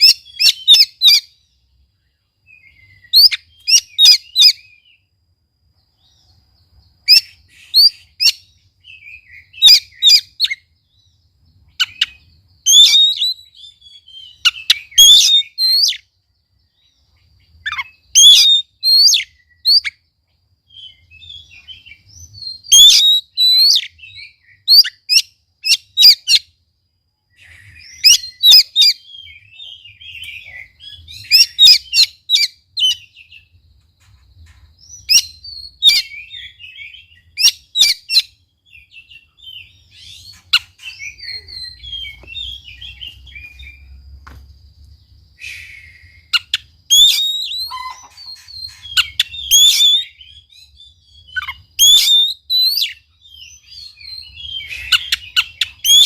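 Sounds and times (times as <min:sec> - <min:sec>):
songbird whistles and chirps: 0:00.0 - 0:56.0.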